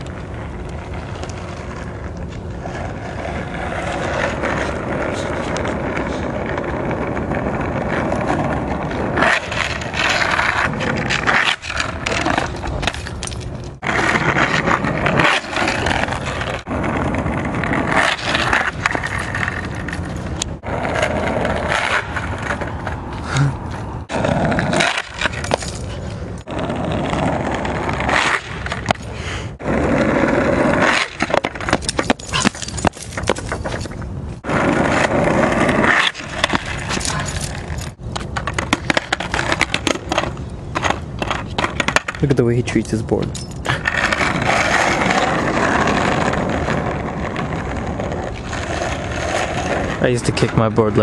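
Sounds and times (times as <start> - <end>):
skateboard wheels rolling on asphalt: 0.0 - 51.0.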